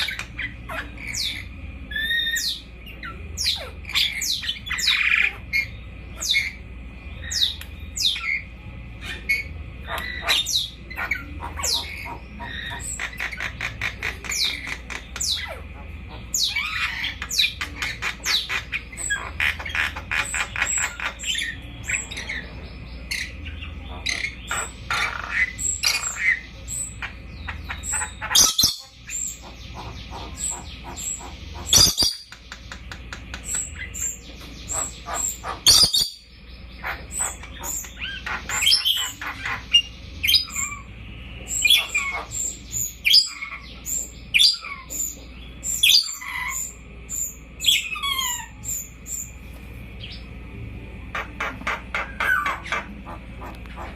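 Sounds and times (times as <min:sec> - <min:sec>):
parrot chirping and chattering: 0:00.0 - 0:53.9.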